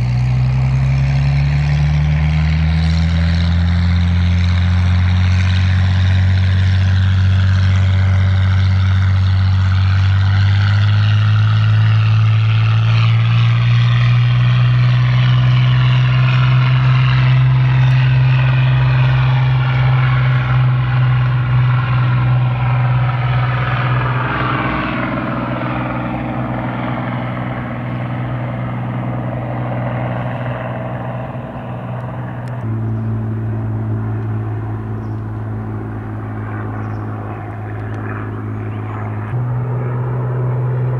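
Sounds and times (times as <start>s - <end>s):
propeller plane engine at full power: 0.0s - 40.9s.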